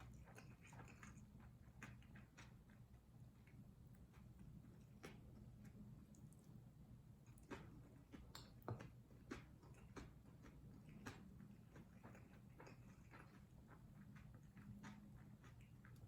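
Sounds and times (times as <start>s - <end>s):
soft eating clicks and taps: 0.0s - 16.0s.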